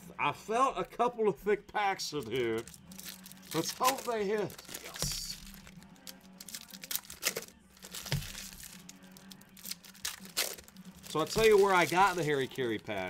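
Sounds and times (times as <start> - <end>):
faint background music: 0.0 - 13.0
card pack wrappers crinkling and tearing: 2.0 - 13.0.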